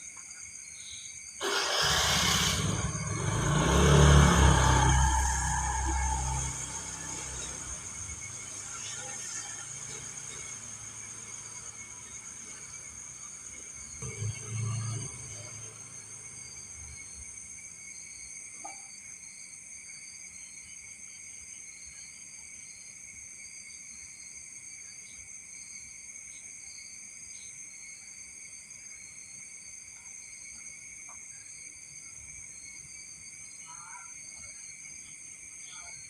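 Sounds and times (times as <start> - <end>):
crickets chirring: 0.0 - 36.0
pulsing insect chirr: 0.0 - 36.0.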